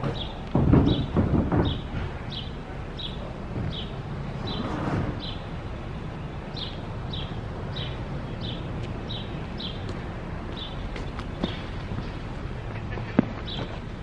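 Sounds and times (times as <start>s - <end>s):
bird chirping: 0.0s - 13.8s
wind: 0.0s - 14.0s.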